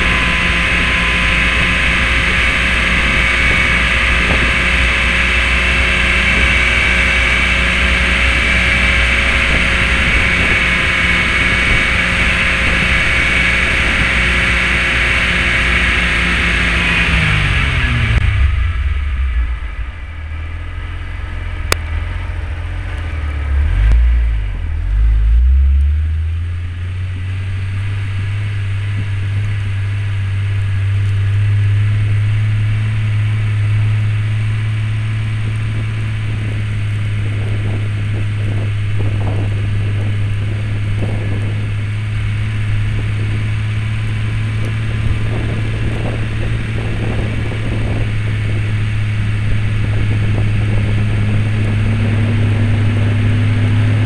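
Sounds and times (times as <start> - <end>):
car engine droning: 0.0 - 54.0.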